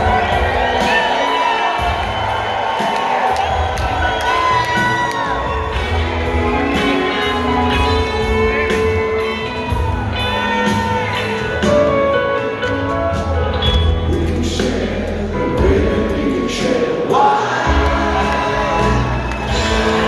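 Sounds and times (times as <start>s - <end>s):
bass guitar: 0.0s - 20.0s
drums: 0.0s - 20.0s.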